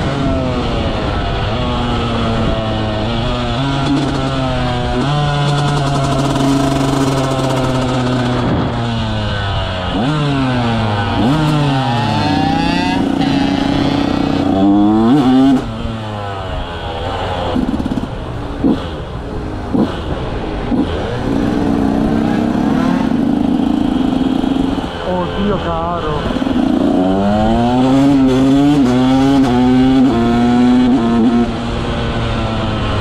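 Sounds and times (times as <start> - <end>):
motocross bike revving: 0.0 - 33.0.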